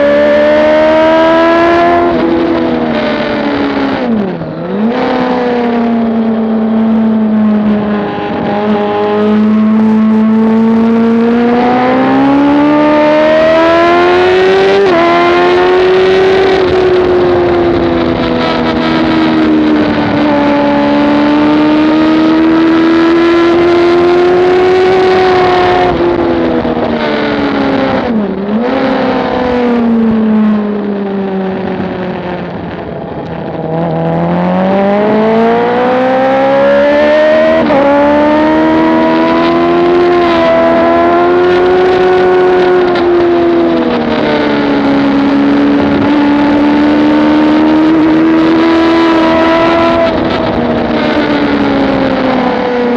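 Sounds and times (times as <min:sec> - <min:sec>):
motorcycle engine revving: 0:00.0 - 0:52.9
wind rush on microphone: 0:00.0 - 0:52.9.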